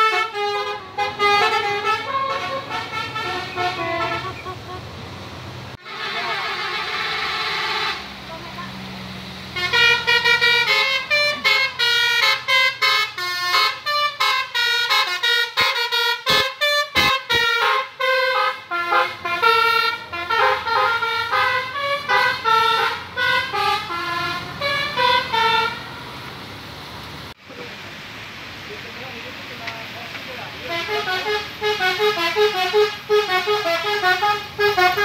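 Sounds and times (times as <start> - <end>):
bus horn playing fast tune: 0.0 - 4.9, 5.8 - 8.6, 9.6 - 25.9, 30.7 - 35.0.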